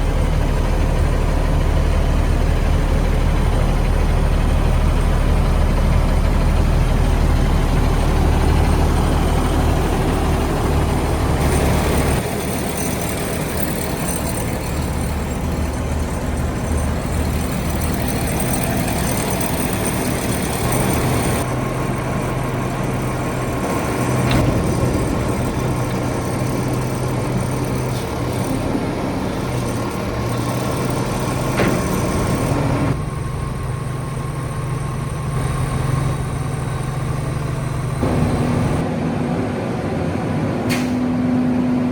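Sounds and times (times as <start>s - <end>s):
garbage truck diesel engine running: 0.0s - 41.9s.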